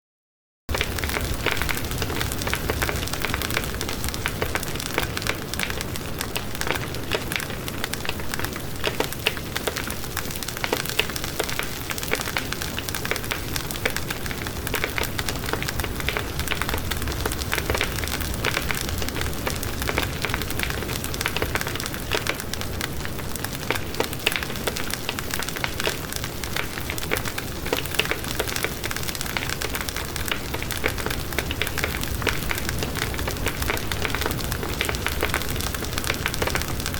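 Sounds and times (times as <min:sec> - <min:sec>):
wood fire crackling and popping: 0:00.7 - 0:36.9.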